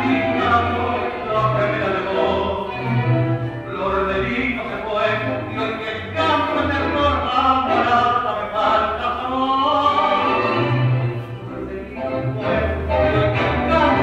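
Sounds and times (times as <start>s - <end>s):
singer with orchestra: 0.0s - 14.0s.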